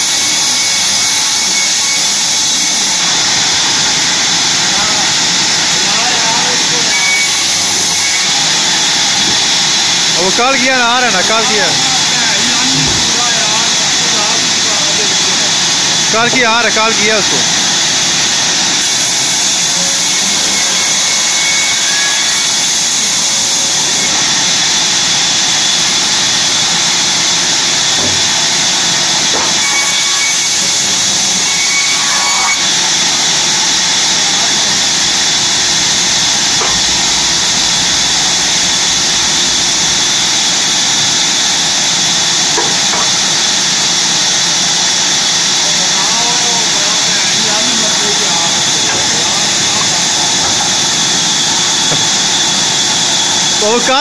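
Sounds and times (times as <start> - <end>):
sawmill saw cutting wood: 0.0 - 54.0.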